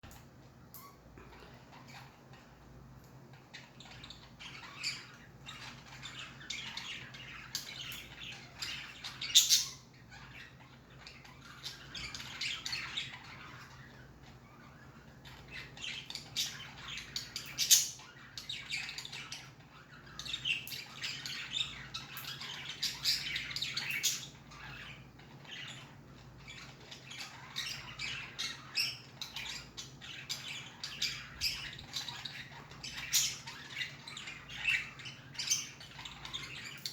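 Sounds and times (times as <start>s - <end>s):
budgies chirping and squawking: 0.1s - 36.9s.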